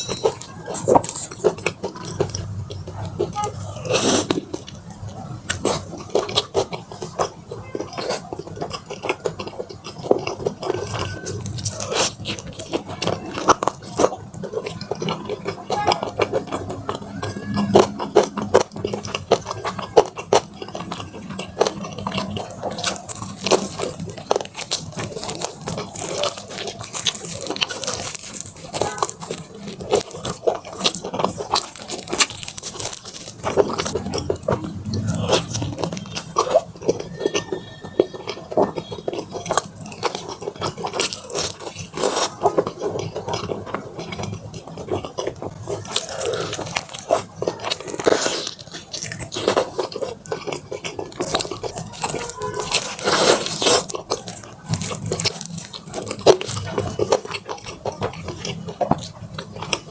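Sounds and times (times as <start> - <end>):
crunching and chewing fried chicken: 0.0 - 59.9.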